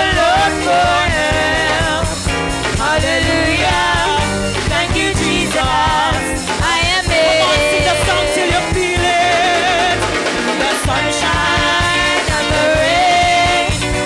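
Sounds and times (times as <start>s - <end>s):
drum kit beat: 0.0s - 14.0s
keyboard: 0.0s - 14.0s
voices singing: 0.0s - 14.0s
worship band playing: 0.0s - 14.0s.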